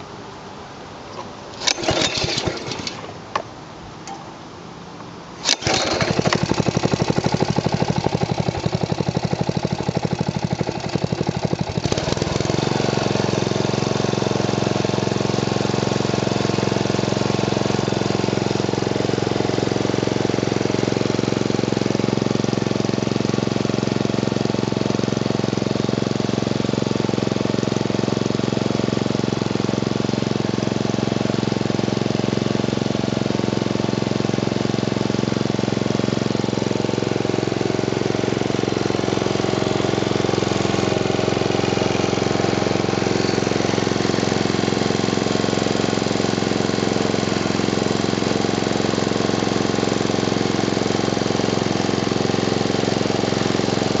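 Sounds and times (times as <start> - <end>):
small engine running: 1.6 - 3.1, 5.4 - 54.0.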